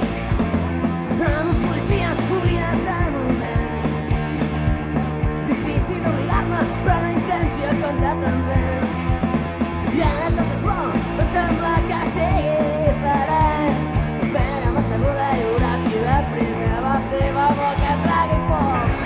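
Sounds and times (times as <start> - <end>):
rock band playing: 0.0 - 19.0
steady drum beat: 0.0 - 19.0.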